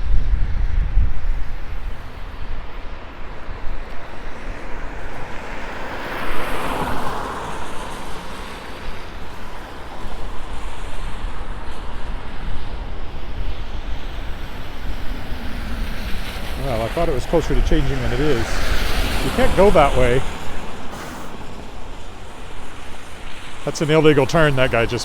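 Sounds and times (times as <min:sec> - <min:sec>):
wind rumbling on microphone: 0:00.0 - 0:25.0
street traffic: 0:02.9 - 0:25.0
car tyres hissing on wet pavement: 0:03.0 - 0:25.0.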